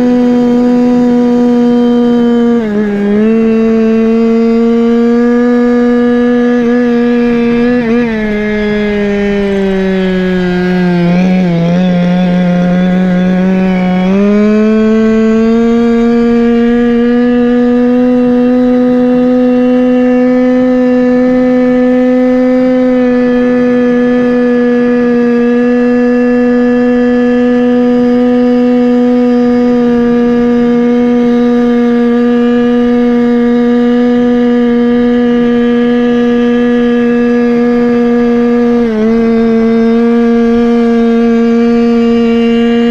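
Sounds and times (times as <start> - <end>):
scooter two-stroke engine revving: 0.0 - 42.9.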